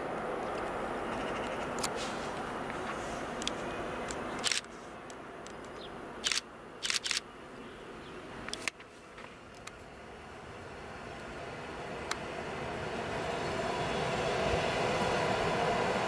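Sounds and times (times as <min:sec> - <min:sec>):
distant electric train approaching: 0:00.0 - 0:16.0.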